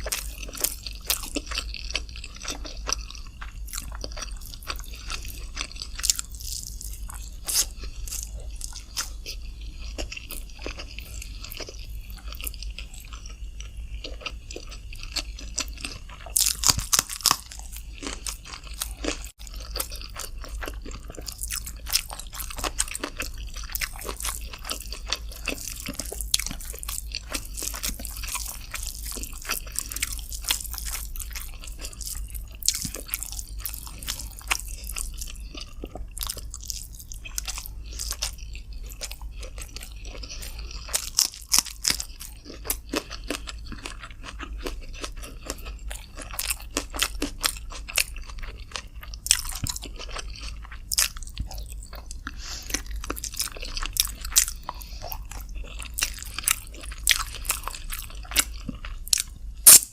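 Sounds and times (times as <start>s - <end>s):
close-miked chewing and crunching: 0.0s - 59.9s.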